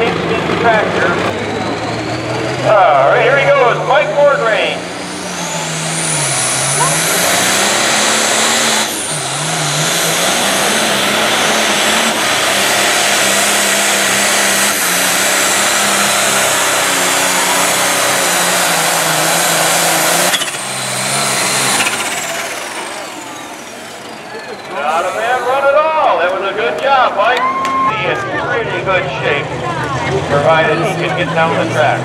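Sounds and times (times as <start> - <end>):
high engine whine: 0.0 - 32.0
tractor diesel engine at full throttle: 0.0 - 32.0.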